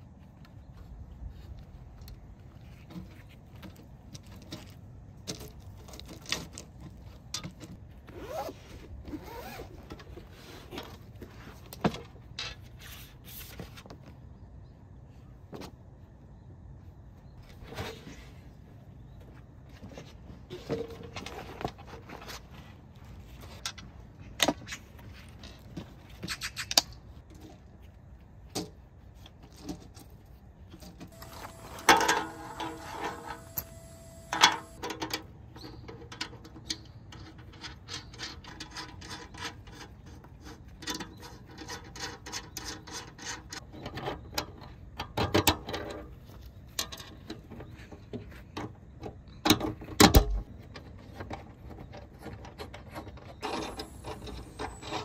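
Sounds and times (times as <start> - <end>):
camping gear clicks and clatter: 0.0 - 12.8, 19.2 - 55.0.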